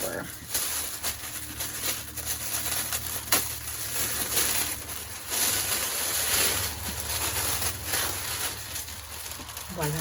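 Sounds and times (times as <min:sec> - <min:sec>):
paper rustling: 0:00.0 - 0:10.0
paper tearing and crinkling: 0:00.0 - 0:10.0.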